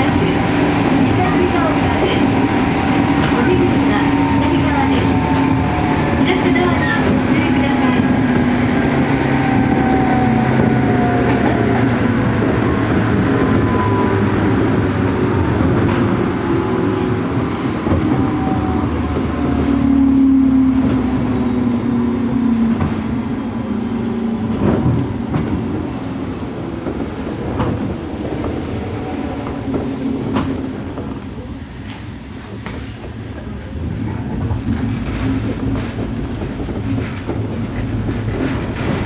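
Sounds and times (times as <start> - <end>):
train motor whine and gear hum: 0.0 - 39.0
wheels rumbling on rail: 0.0 - 39.0.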